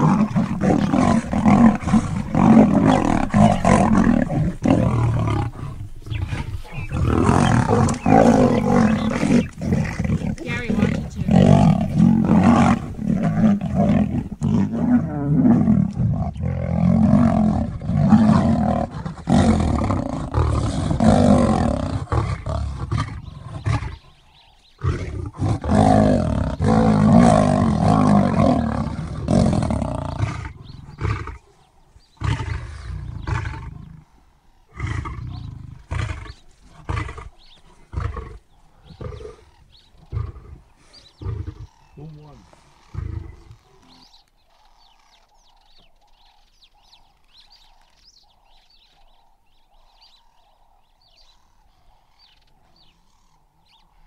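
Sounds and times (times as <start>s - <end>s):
lions snarling and growling: 0.0s - 54.0s.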